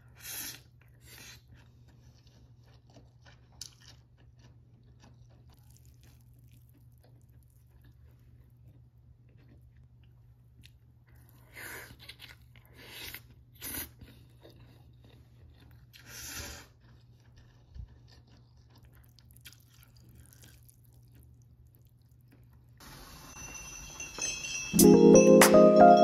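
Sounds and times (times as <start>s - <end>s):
person chewing food: 0.4s - 22.8s.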